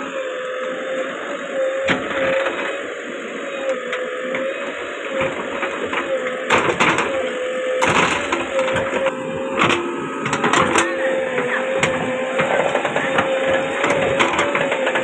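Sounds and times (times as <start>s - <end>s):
backhoe loader engine whine: 0.0s - 15.0s.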